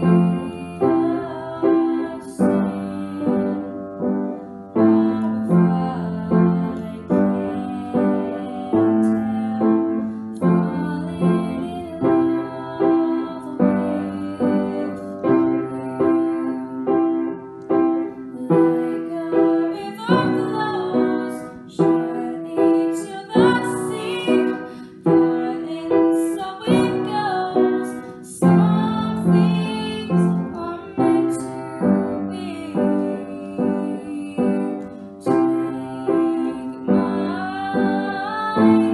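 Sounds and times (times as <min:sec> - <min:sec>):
girl singing: 0:00.0 - 0:38.9
upright piano chords: 0:00.0 - 0:38.9.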